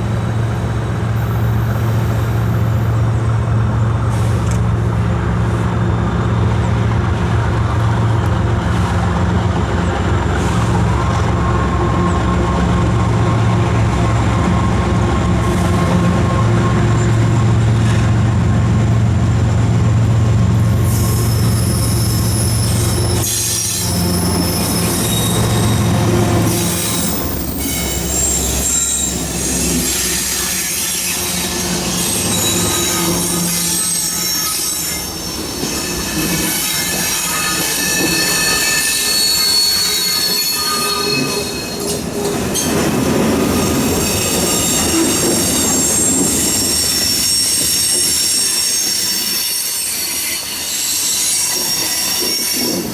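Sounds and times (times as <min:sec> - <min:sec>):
train wheels squealing on rail: 0:00.0 - 0:18.2, 0:20.5 - 0:52.9
rumble of train cars: 0:00.0 - 0:52.9.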